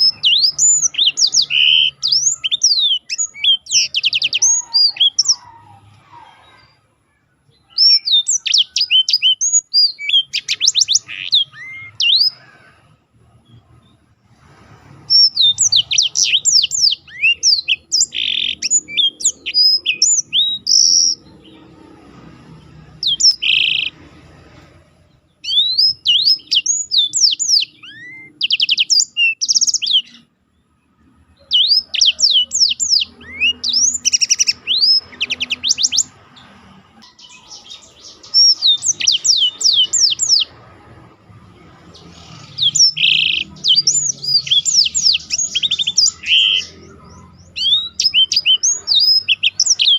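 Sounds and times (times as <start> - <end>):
canary singing whistles and trills: 0.0 - 49.9.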